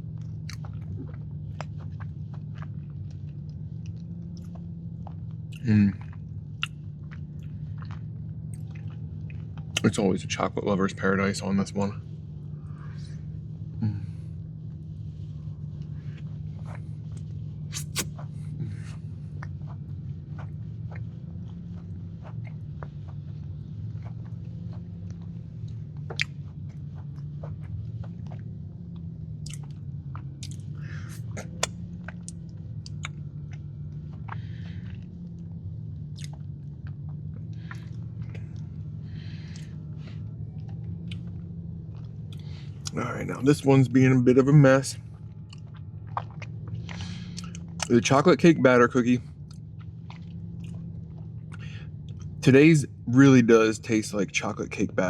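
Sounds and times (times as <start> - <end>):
close chewing with mouth clicks: 0.0 - 10.0, 12.2 - 43.1, 45.0 - 48.1, 49.4 - 52.4
steady low hum: 0.0 - 55.0.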